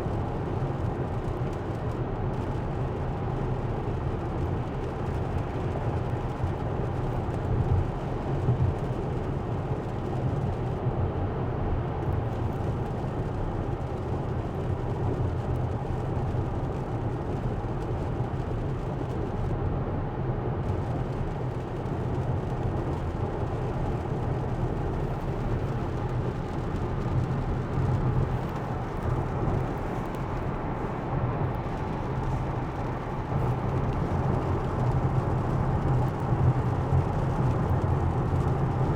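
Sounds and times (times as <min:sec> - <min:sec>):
road and tyre noise in car cabin: 0:00.0 - 0:38.9.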